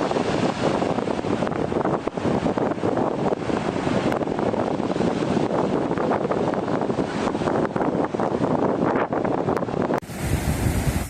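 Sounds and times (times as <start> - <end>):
sea waves washing in: 0.0 - 8.6, 9.7 - 11.0
wind buffeting microphone: 0.0 - 11.0.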